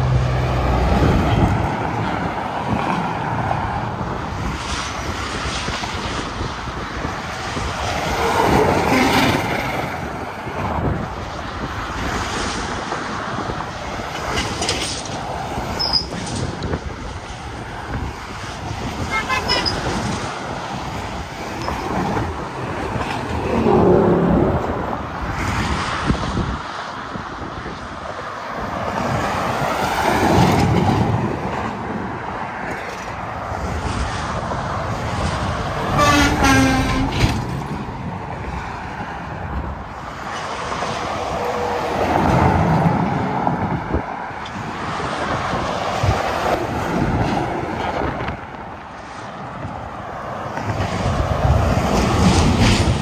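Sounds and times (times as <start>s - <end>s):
heavy trucks passing: 0.0s - 53.0s.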